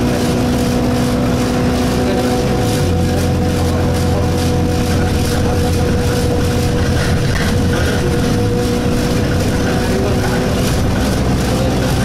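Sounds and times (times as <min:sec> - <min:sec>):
bus engine drone: 0:00.0 - 0:12.0
vibration hum: 0:00.0 - 0:12.0.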